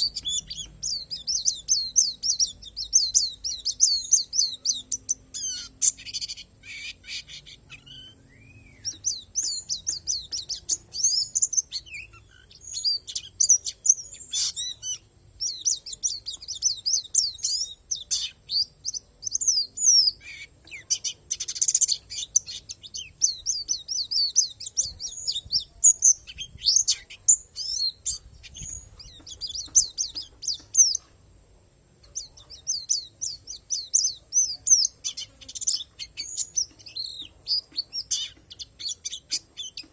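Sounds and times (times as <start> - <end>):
bird twittering song: 0.0 - 31.4, 32.0 - 39.9.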